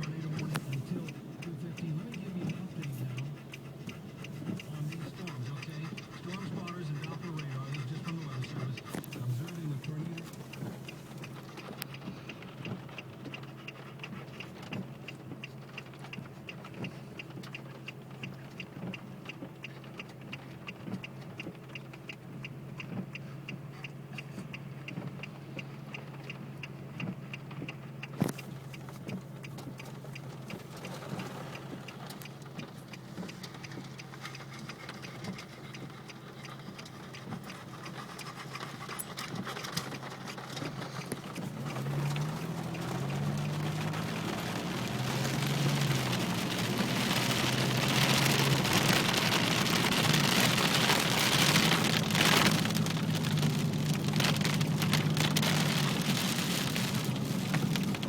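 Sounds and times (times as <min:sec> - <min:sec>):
car engine hum inside cabin: 0:00.0 - 0:58.0
rapid regular ticking: 0:00.0 - 0:58.0.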